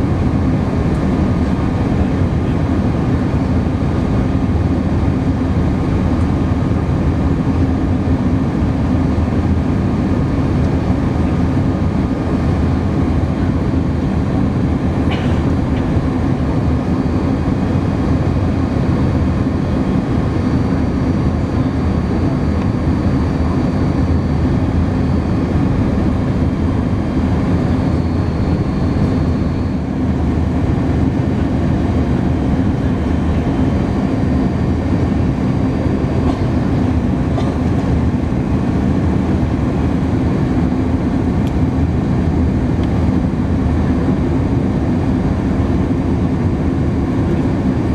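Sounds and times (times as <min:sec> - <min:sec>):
airplane cabin roar: 0:00.0 - 0:47.9.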